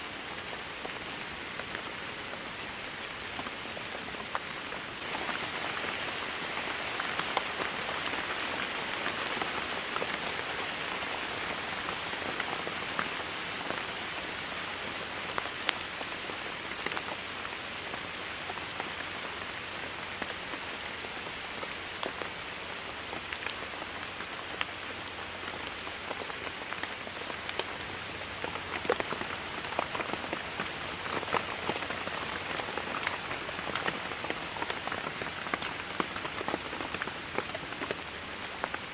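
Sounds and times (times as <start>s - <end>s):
rain pattering on surface: 0.0s - 38.9s.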